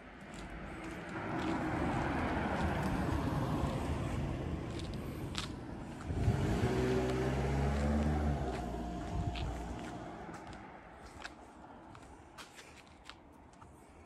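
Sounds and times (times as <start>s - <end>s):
car passing on road: 0.0s - 12.8s
steady engine hum: 0.0s - 14.0s.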